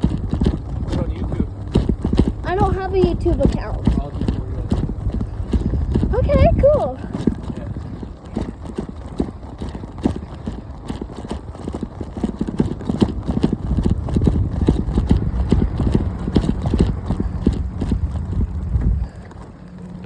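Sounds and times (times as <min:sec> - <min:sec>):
bicycle rattling and knocking: 0:00.0 - 0:20.0
low rumble of wind and tyres: 0:00.0 - 0:20.0.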